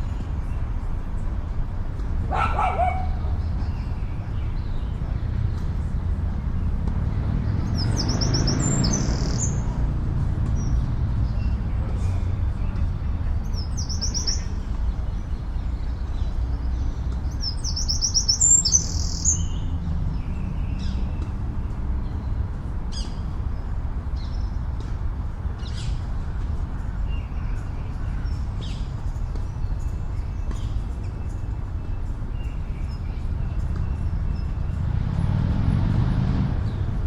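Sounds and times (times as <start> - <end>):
city traffic rumble: 0.0 - 37.0
songbirds singing: 0.0 - 37.0.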